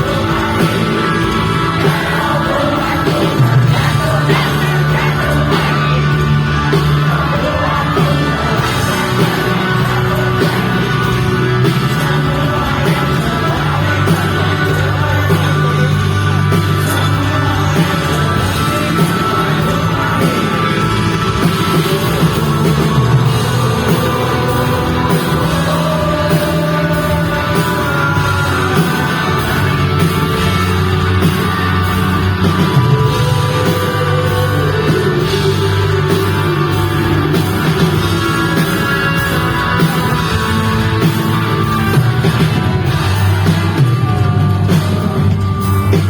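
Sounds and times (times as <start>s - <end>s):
lead vocal singing: 0.0s - 46.0s
live pop rock band: 0.0s - 46.0s.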